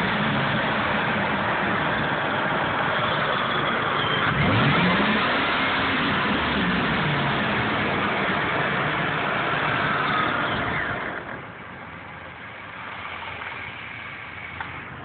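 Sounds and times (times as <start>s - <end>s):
supercharged engine whining and idling: 0.0s - 15.0s.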